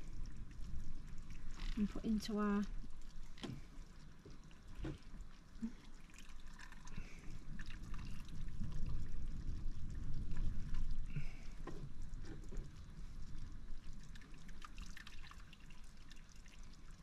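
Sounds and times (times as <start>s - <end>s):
water pouring and dripping: 0.0s - 17.0s.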